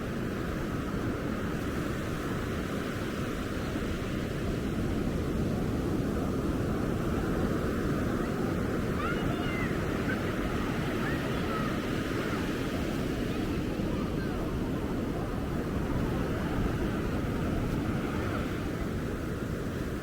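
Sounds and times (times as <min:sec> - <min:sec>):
ocean waves washing onto beach: 0:00.0 - 0:20.0.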